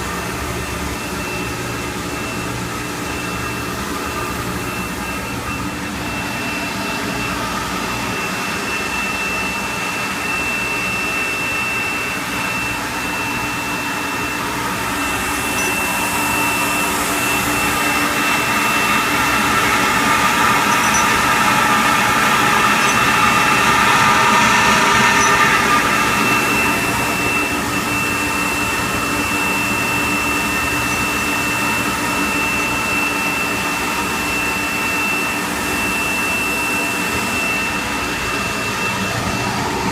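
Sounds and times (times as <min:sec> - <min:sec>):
thin high whine: 0:00.0 - 0:39.9
parts washer machine rushing: 0:02.1 - 0:39.9.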